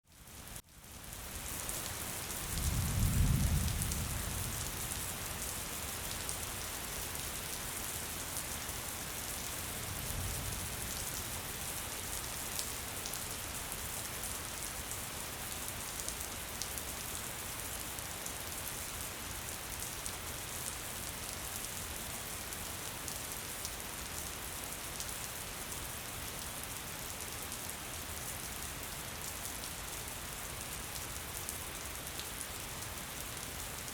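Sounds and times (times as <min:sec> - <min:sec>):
gentle rain hiss: 0:00.1 - 0:33.9.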